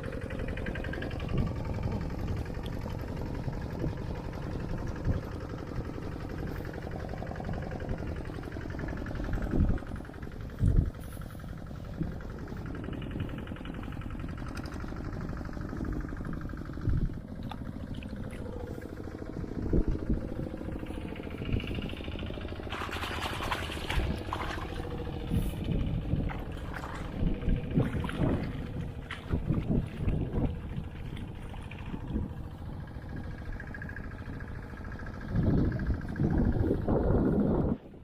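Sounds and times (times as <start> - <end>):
walk-behind tractor engine: 0.0 - 38.0.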